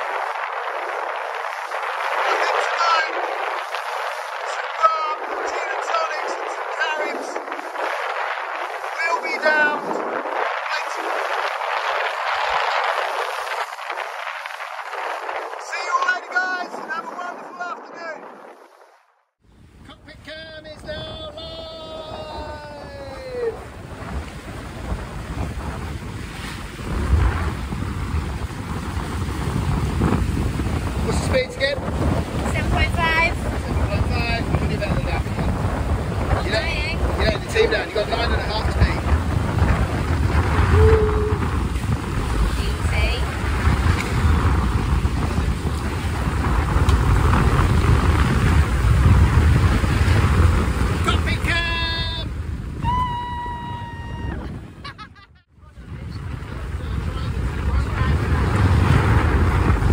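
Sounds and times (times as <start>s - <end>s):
water rushing along boat hull: 0.0s - 59.9s
wind buffeting microphone: 0.0s - 59.9s.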